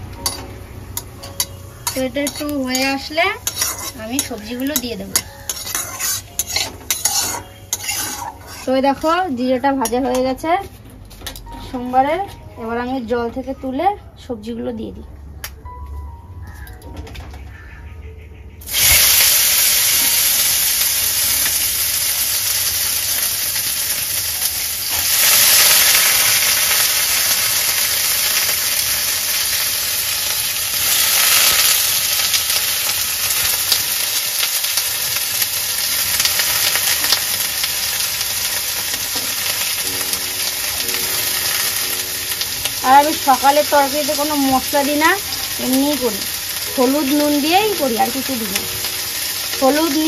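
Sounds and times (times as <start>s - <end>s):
vegetables sizzling in hot oil: 0.0s - 9.6s, 18.7s - 50.0s.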